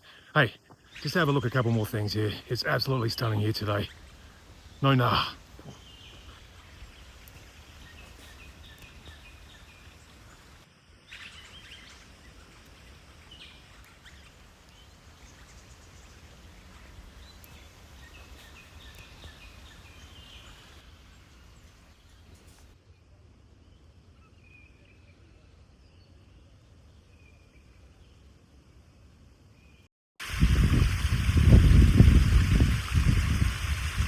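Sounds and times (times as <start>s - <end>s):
faint birds chirping: 0.0s - 29.9s.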